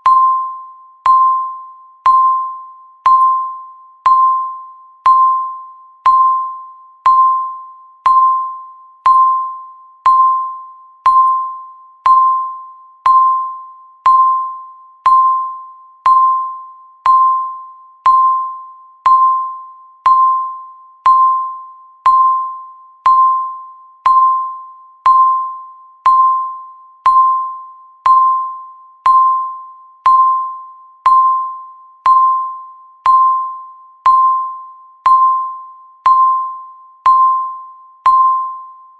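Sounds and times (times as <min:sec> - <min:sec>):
timer bell-like ding: 0:00.0 - 0:38.9.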